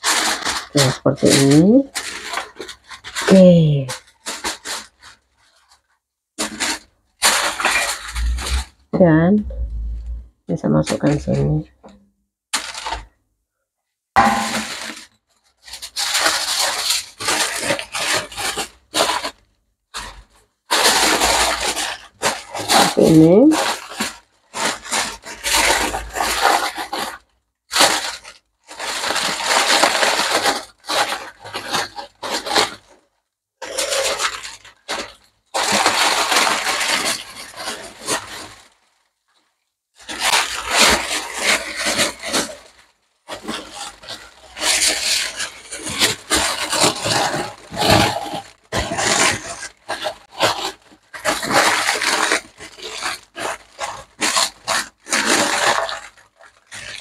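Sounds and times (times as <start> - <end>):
aluminium foil crinkling: 0.0 - 11.8, 12.5 - 13.2, 14.2 - 57.0.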